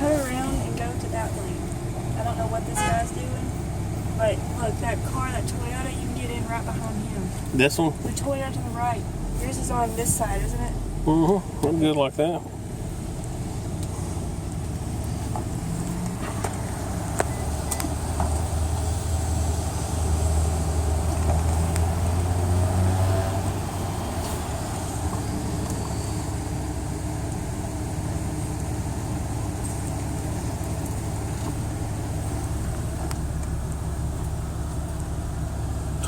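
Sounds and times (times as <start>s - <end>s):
car engine and cabin hum: 0.0s - 36.0s.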